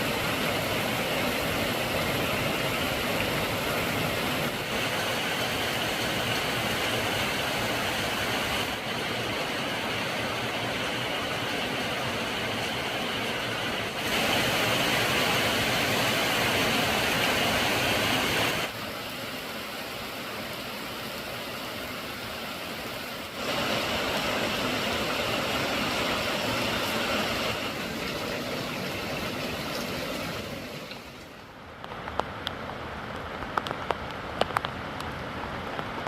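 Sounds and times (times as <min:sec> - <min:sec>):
rushing floodwater: 0:00.0 - 0:36.0.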